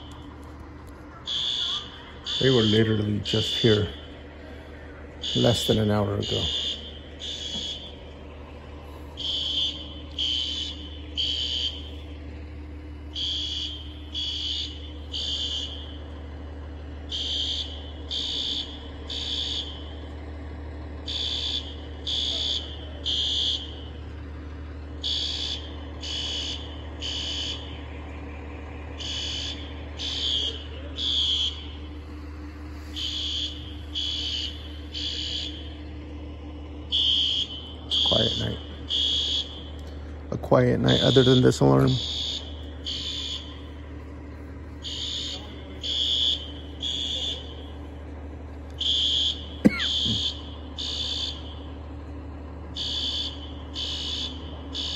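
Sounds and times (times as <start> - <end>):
fire alarm beeping: 0.0 - 0.6, 1.2 - 12.2, 12.8 - 16.4, 17.0 - 20.0, 21.0 - 24.0, 25.0 - 27.9, 28.9 - 36.2, 36.8 - 44.0, 44.8 - 48.0, 48.8 - 51.8, 52.7 - 54.9
steady low hum: 0.0 - 54.9.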